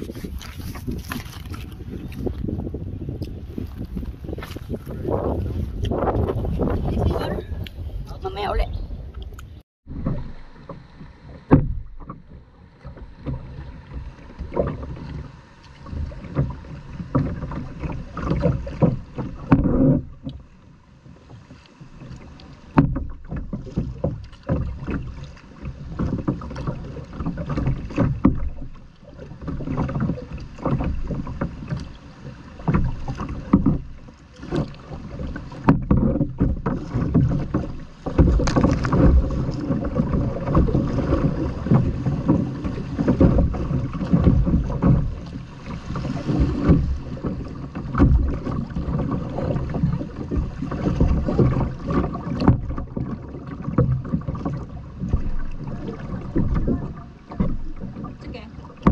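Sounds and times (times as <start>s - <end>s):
paddle splashes and knocks: 0.0s - 58.9s
water rushing past hull: 0.0s - 58.9s
wind rumble on microphone: 0.0s - 58.9s.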